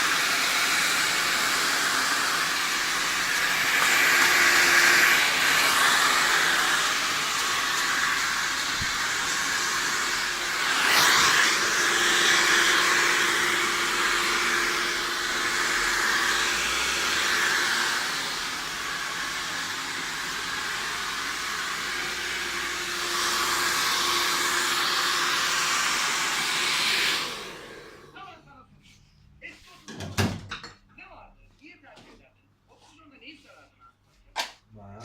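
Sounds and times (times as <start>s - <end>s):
hair dryer blowing: 0.0s - 28.3s.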